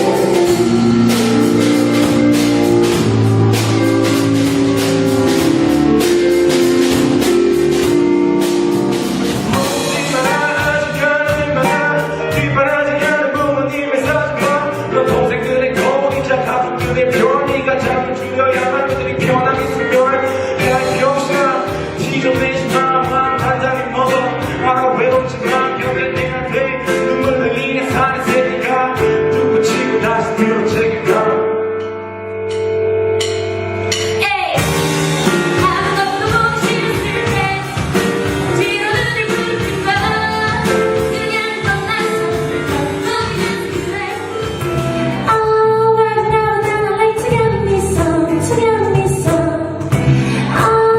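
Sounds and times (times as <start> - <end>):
person singing: 0.0 - 2.3, 9.5 - 31.8, 34.0 - 50.9
live band music: 0.0 - 50.9.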